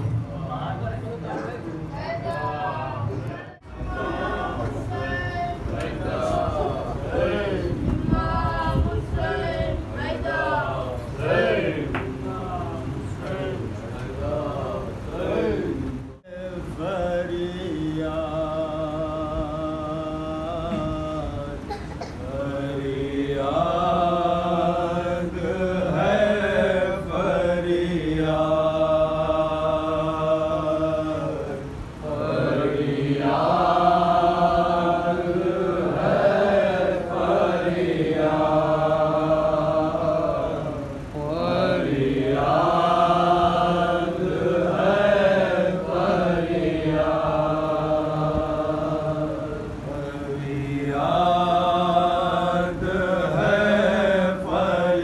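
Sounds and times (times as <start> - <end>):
men chanting a mourning lament: 3.8 - 55.0.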